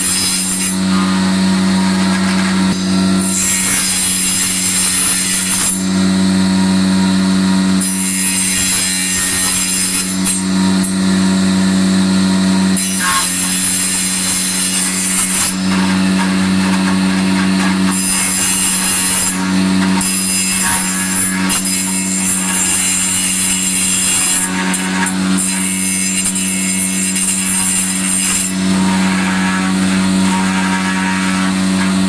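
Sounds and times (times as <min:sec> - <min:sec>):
hissing wood cutting: 0:00.0 - 0:32.0
power tool motor hum: 0:00.0 - 0:32.0.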